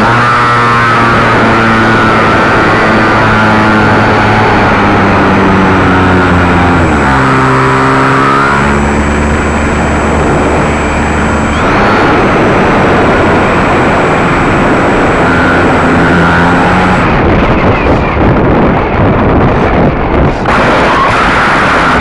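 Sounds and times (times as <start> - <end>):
electric motor and propeller: 0.0 - 18.7
wind noise on microphone: 0.0 - 22.0.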